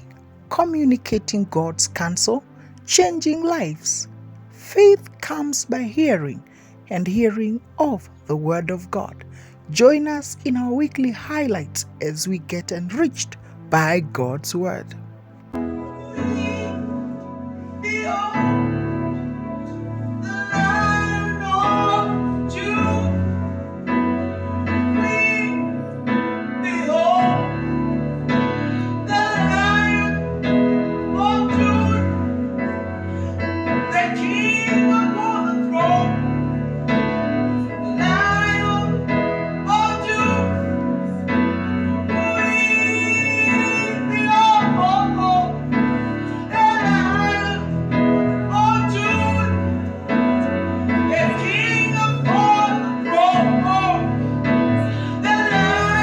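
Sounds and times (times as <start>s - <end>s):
person singing gospel song: 0.0s - 15.0s, 15.8s - 56.0s
keyboard chords: 0.0s - 56.0s.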